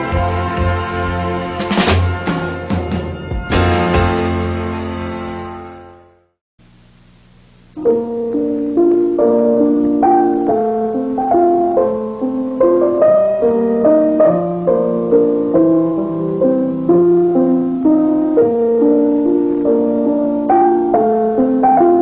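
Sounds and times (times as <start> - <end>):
keyboard melody over chords: 0.0 - 6.2, 7.8 - 22.0.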